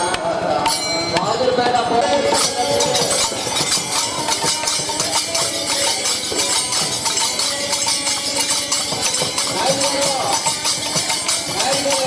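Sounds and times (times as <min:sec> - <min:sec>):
hand cymbals clashing: 0:00.0 - 0:12.0
hand drum: 0:00.0 - 0:12.0.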